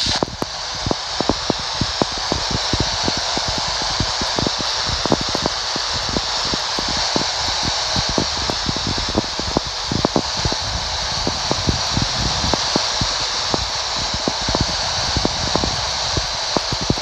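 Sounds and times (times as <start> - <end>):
radio crackles and pops: 0.0 - 17.0
radio static hiss: 0.0 - 17.0.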